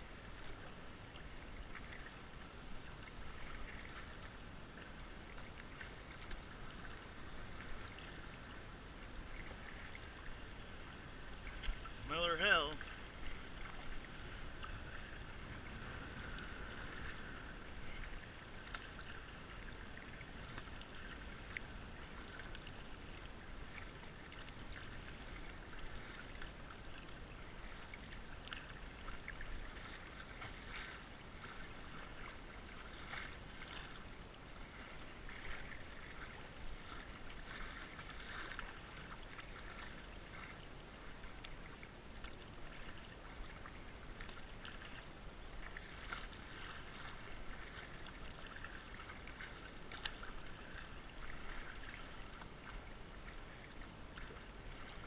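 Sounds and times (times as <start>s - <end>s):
creek water flowing: 0.0s - 55.0s
water lapping against plastic hull: 0.0s - 55.0s
small splashes and drips: 0.4s - 55.0s.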